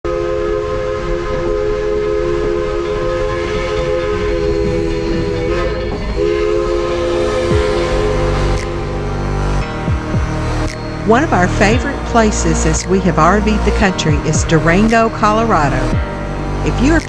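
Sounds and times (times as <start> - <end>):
steam locomotive whistle: 0.1 - 17.0
low rumble: 0.6 - 17.0.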